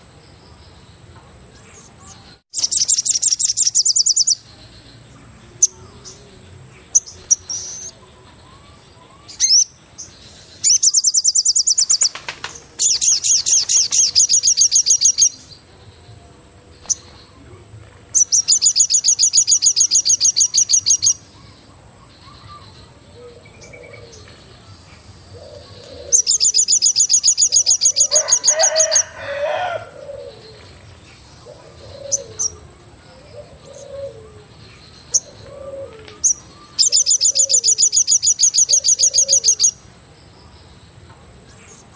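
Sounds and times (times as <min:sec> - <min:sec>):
birds trilling: 0:01.5 - 0:41.9.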